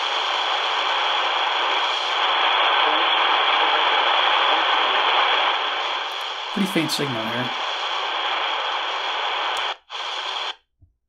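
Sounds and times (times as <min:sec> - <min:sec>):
faint radio signal: 0:00.0 - 0:10.6
shortwave radio static hiss: 0:00.0 - 0:10.6.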